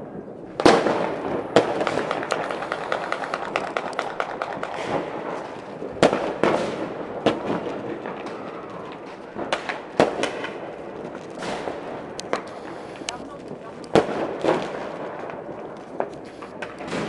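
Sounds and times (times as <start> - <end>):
firework bangs: 0.0 - 17.0
fireworks crackling and popping: 0.0 - 17.0.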